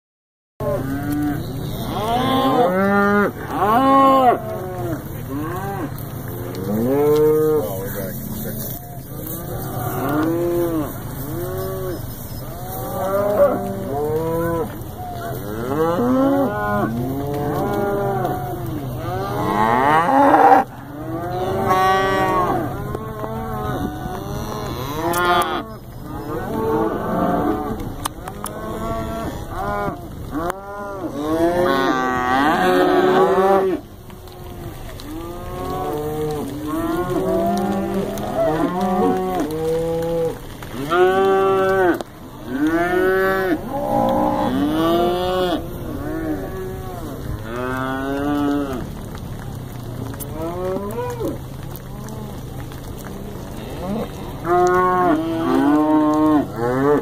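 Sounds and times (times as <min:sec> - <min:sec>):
cattle mooing: 0:00.6 - 0:49.1, 0:49.8 - 0:57.0.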